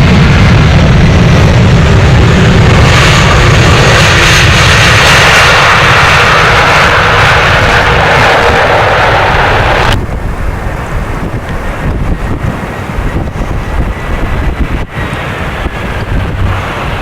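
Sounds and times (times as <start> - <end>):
jet airliner engines rushing: 0.0 - 17.0
wind buffeting microphone: 0.0 - 17.0.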